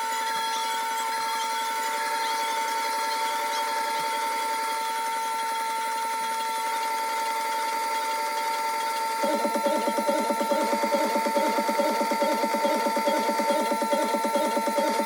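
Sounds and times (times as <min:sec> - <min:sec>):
sharpening grinder whining: 0:00.0 - 0:15.0.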